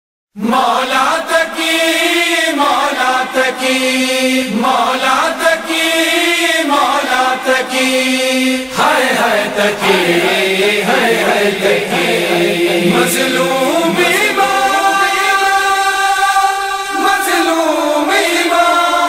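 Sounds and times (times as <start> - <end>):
voices chanting a slow melody: 0.4 - 19.0.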